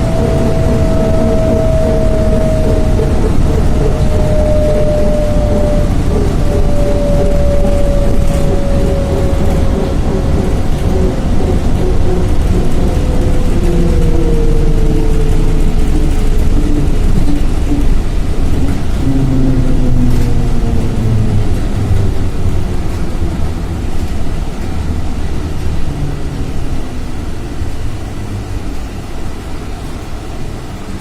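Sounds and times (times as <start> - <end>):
electric traction-drive whine: 0.0 - 31.0
running gear and road rumble: 0.0 - 31.0.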